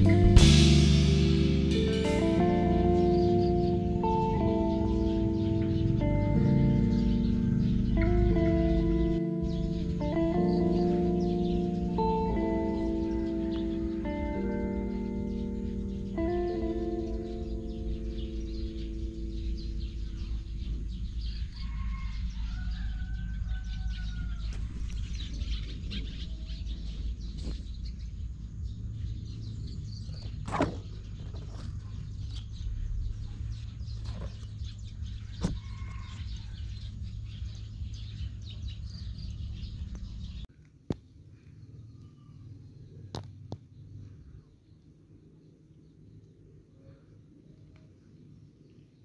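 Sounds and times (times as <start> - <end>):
steady low rumble: 0.0 - 40.5
distant birds calling: 0.0 - 49.0.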